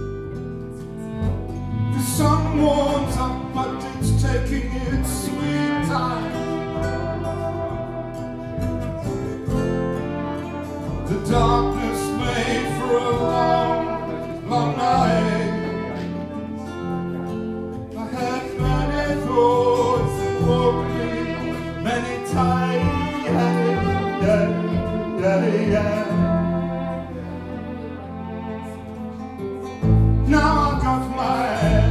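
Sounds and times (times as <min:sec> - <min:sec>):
double bass: 0:00.0 - 0:31.9
strummed acoustic guitar: 0:00.0 - 0:31.9
violin: 0:00.0 - 0:31.9
flugelhorn: 0:01.0 - 0:31.9.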